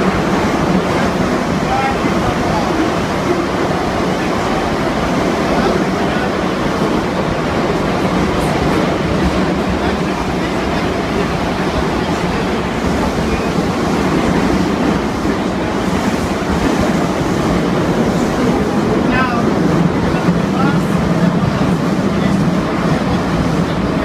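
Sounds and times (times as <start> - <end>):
metro train rumbling: 0.0 - 24.0.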